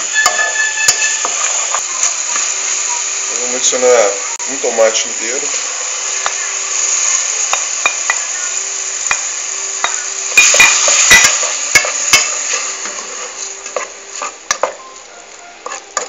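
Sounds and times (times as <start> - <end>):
tomato sizzling in hot oil: 0.0 - 16.0.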